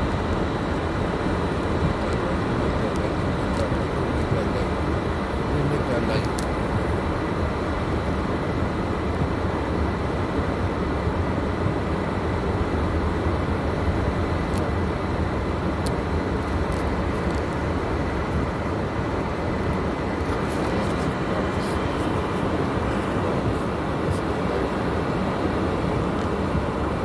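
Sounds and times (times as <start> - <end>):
car driving on snow: 0.0 - 27.0.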